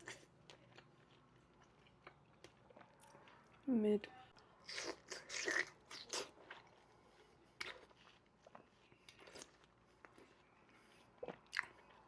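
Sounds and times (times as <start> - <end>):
chewing strawberries: 0.0 - 3.7, 4.3 - 12.0.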